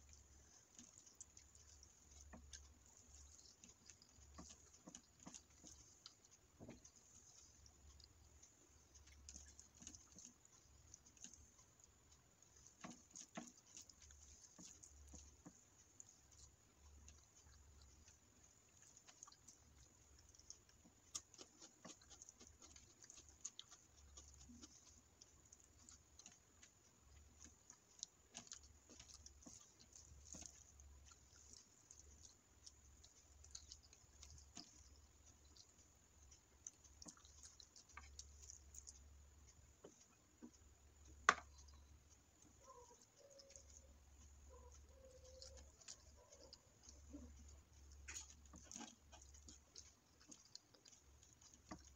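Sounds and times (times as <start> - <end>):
fingers squishing rice: 0.0 - 51.9.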